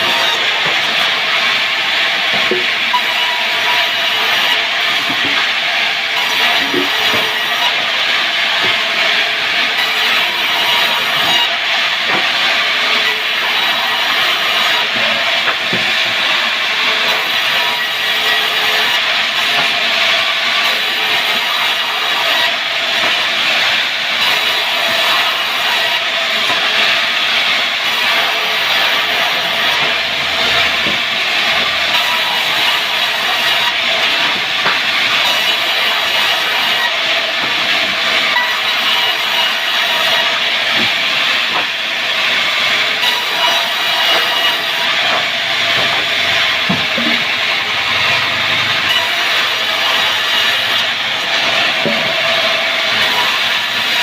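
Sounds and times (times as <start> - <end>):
wood saw cutting timber: 0.0 - 54.0.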